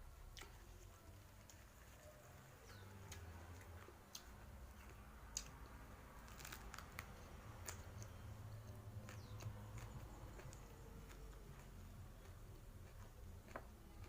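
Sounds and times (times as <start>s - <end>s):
low steady hum: 0.0s - 14.0s
chewing with small crunches: 0.2s - 14.0s.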